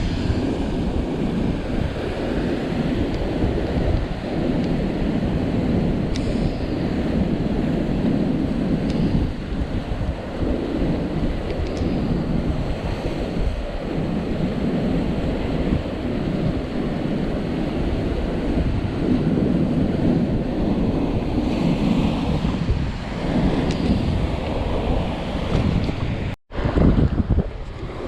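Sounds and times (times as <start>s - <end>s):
rough surf: 0.0s - 28.0s
wind buffeting microphone: 0.0s - 28.0s.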